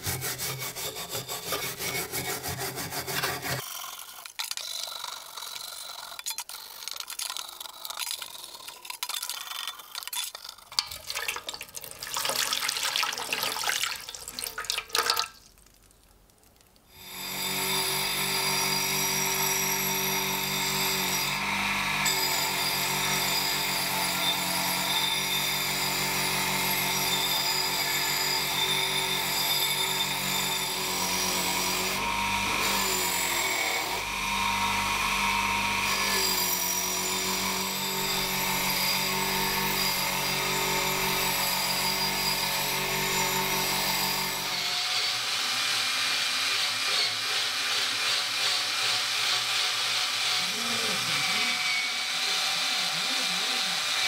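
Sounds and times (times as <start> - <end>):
bench grinder grinding steel: 0.0 - 9.8, 17.0 - 54.0
hand drill running: 0.2 - 10.0, 17.0 - 54.0.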